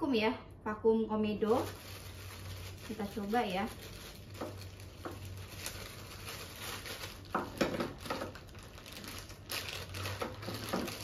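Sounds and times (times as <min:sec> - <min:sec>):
plastic bag crinkling: 0:01.4 - 0:11.0.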